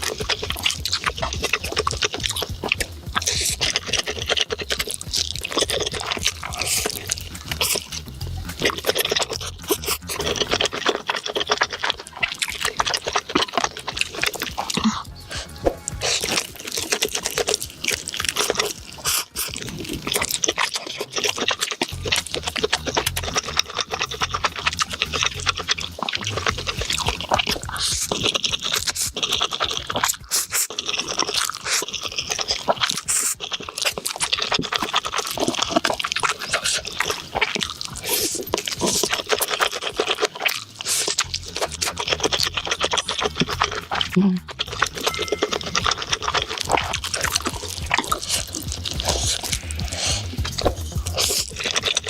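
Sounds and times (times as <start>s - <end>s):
wet chewing and slurping: 0.0s - 52.0s.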